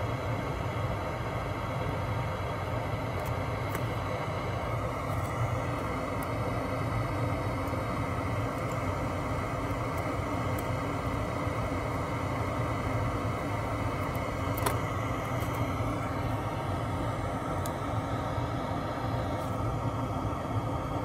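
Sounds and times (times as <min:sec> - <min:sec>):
machinery hum and hiss: 0:00.0 - 0:21.0.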